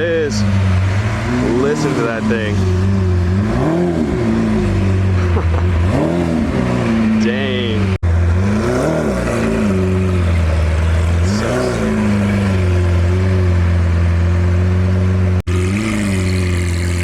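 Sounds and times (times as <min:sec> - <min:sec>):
sports car engine idling and revving: 0:00.0 - 0:17.0.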